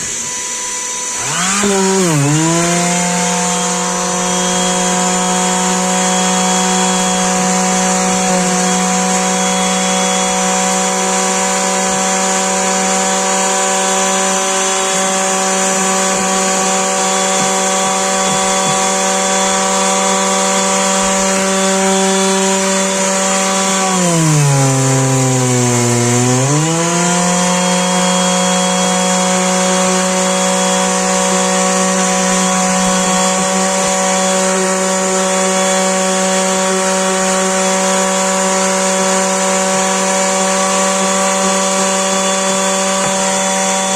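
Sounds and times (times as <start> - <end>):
vibration sander buzzing: 0.0 - 43.9.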